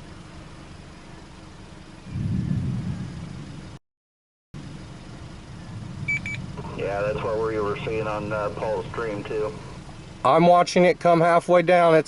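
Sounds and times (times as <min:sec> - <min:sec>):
engine and road hum: 0:00.0 - 0:03.8, 0:04.6 - 0:12.0.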